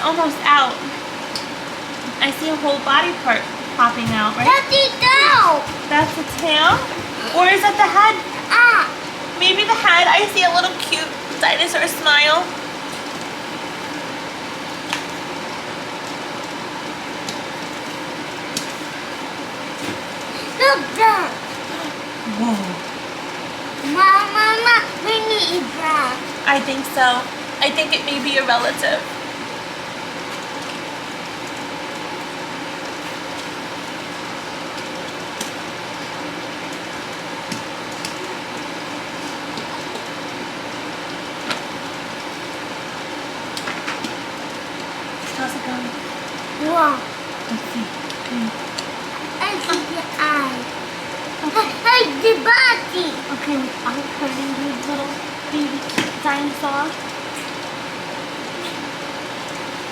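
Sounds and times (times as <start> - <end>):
steady room noise: 0.0 - 59.9.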